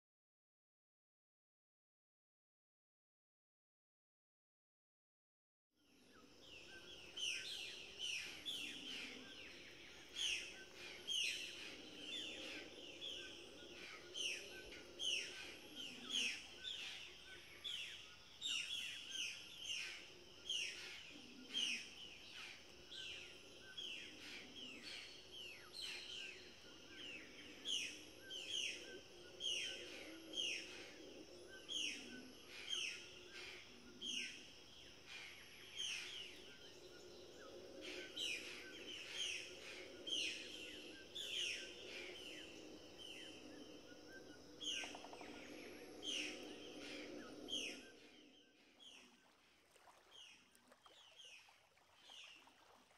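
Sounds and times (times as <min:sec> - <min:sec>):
birds chirping: 0:06.2 - 0:49.4.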